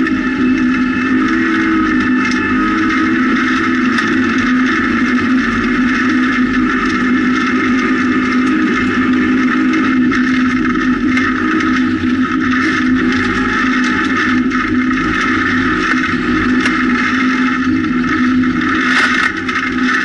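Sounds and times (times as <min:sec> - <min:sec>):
rally car engine at steady revs: 0:00.0 - 0:20.0
tyre and gravel noise: 0:00.0 - 0:20.0.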